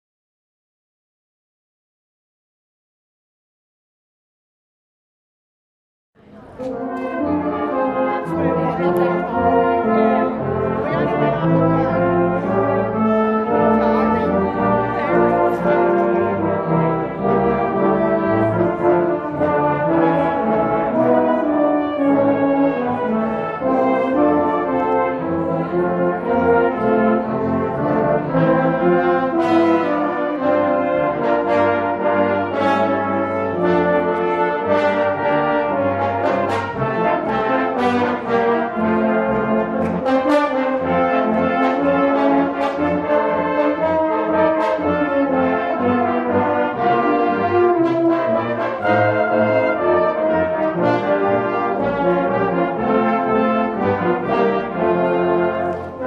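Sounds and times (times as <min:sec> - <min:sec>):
brass band playing chords: 0:06.2 - 0:56.0.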